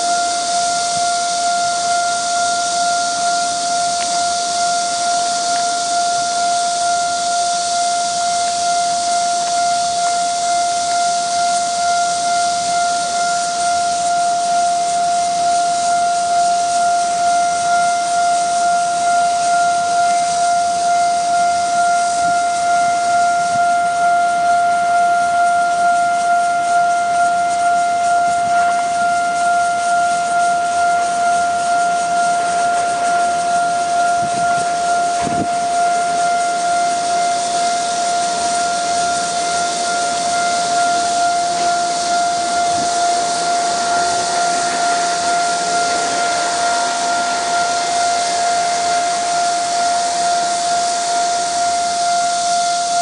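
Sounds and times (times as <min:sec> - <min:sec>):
approaching train hissing rush: 0:00.0 - 0:53.0
level crossing warning bell: 0:00.0 - 0:53.0.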